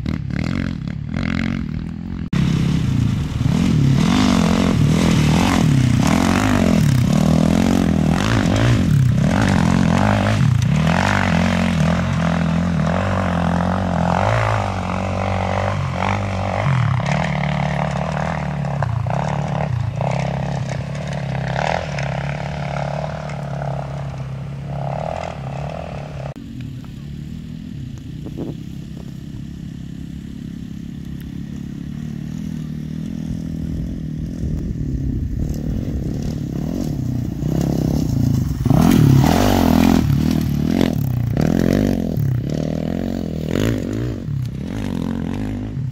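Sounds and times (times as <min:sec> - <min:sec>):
dirt bike engines running hard: 0:00.0 - 0:45.9
distant motorbike engine: 0:00.0 - 0:45.9.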